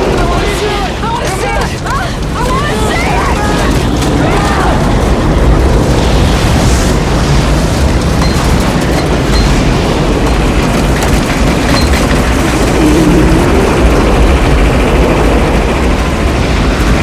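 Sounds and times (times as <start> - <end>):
deep rumble: 0.0 - 17.0
loud tornado wind: 0.0 - 17.0.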